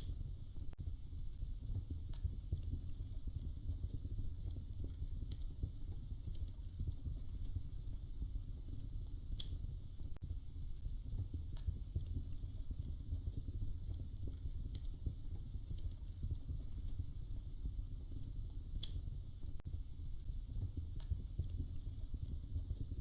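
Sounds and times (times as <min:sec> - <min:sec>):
fire popping: 0:00.0 - 0:23.0
low fire rumble: 0:00.0 - 0:23.0
wood fire crackling: 0:00.0 - 0:23.0.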